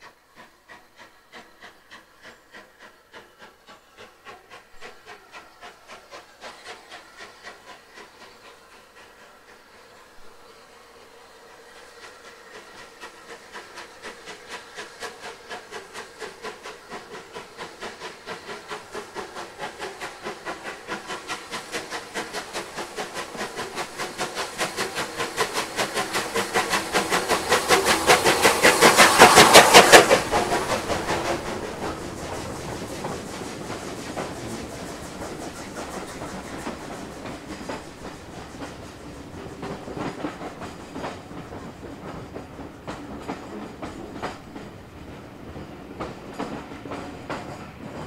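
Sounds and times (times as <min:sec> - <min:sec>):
steam locomotive exhaust beats: 0:00.0 - 0:48.0.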